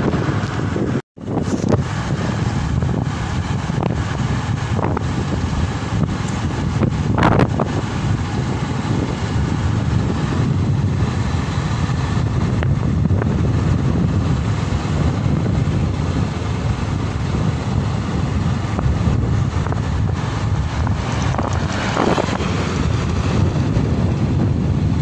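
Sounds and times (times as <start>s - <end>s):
steady low rumble: 0.0s - 25.0s
wind buffeting microphone: 0.0s - 25.0s.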